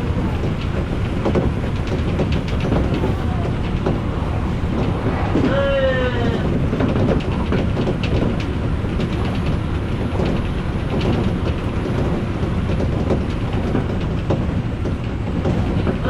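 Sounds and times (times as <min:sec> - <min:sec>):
train wheels rumbling on rails: 0:00.0 - 0:16.0
wheels clicking over track: 0:00.0 - 0:16.0.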